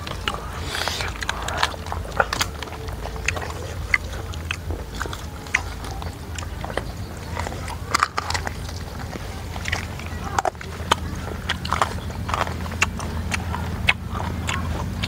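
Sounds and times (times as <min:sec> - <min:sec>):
low hum: 0:00.0 - 0:15.0
person chewing crunchy food: 0:00.0 - 0:15.0.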